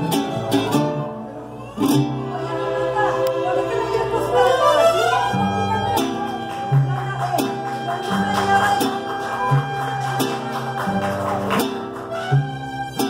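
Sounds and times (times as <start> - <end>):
mariachi violins and guitars: 0.0 - 13.0.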